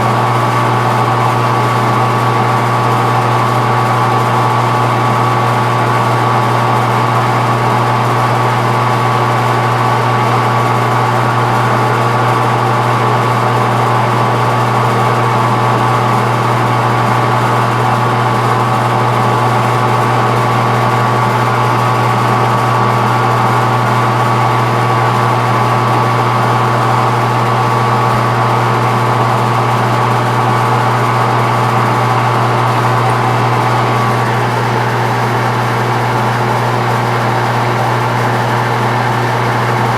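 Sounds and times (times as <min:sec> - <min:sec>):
metal lathe running: 0:00.0 - 0:39.9.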